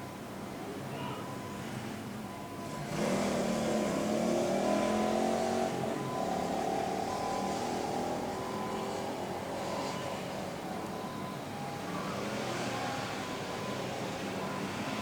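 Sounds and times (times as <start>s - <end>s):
vehicle passing by: 2.8s - 15.0s.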